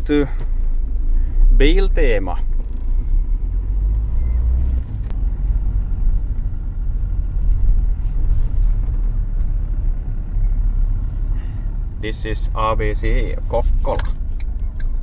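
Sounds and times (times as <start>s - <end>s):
deep hum: 0.0s - 15.0s
engine and road noise: 0.0s - 15.0s.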